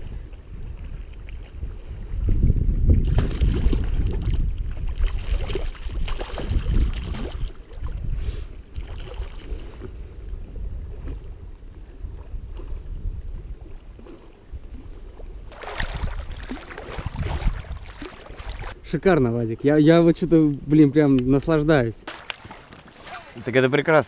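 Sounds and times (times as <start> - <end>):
water splashing and sloshing: 0.0 - 18.8, 22.0 - 24.0
wind rumbling on microphone: 0.0 - 22.0.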